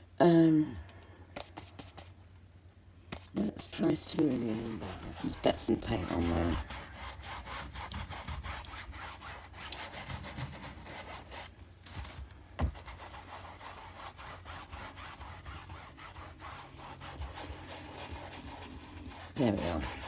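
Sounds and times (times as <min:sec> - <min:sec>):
paintbrush scrubbing canvas: 0:01.4 - 0:02.2, 0:03.1 - 0:20.0.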